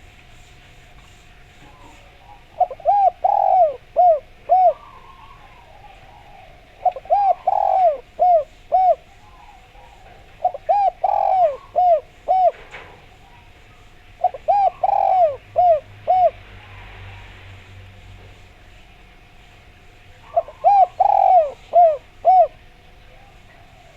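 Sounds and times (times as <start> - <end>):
dove cooing: 0.6 - 17.0, 20.1 - 23.9.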